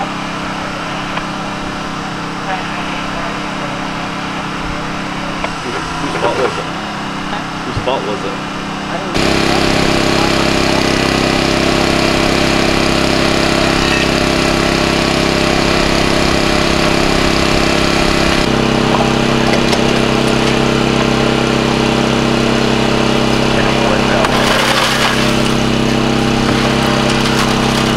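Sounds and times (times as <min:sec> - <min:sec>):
small petrol engine running: 0:00.0 - 0:27.9.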